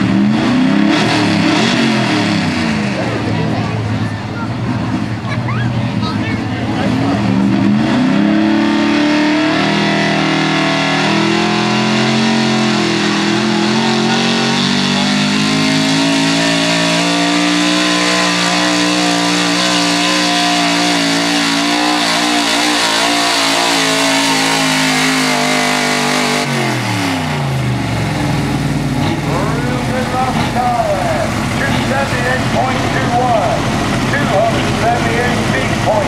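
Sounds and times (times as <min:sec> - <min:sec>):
truck engine revving hard: 0:00.0 - 0:36.0.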